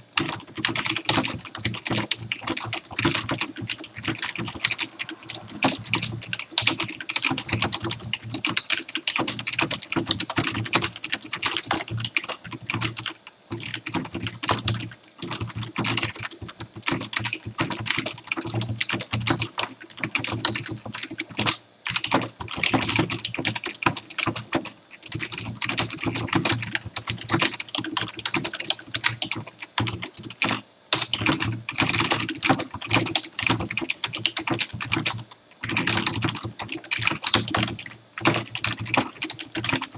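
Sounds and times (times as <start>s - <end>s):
computer keyboard typing: 0.2s - 39.9s.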